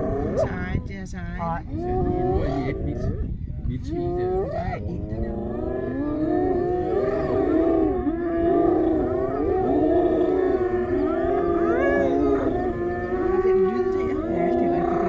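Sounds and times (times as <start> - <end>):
hyenas calling: 0.0 - 3.3, 3.9 - 15.0.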